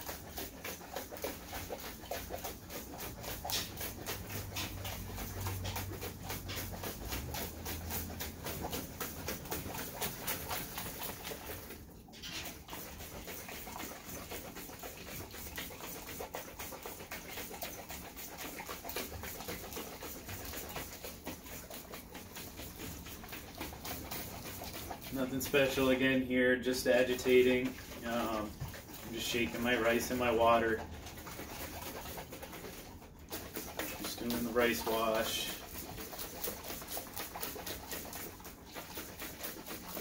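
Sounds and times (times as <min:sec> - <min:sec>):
rice and water shaken in a jar: 0:00.0 - 0:40.0.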